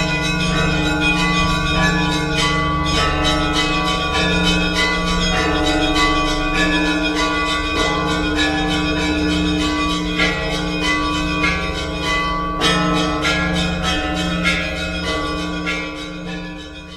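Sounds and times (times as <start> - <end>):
church bells ringing: 0.0 - 16.9
deep bell humming: 0.0 - 16.9.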